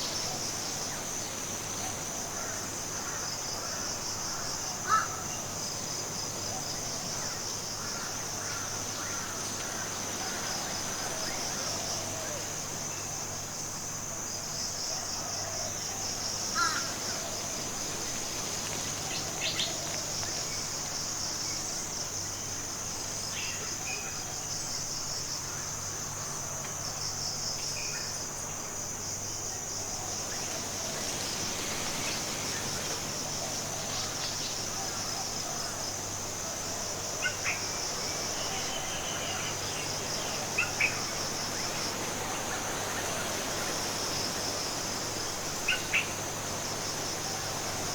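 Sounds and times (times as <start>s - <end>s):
shrill insect chorus: 0.0s - 47.9s.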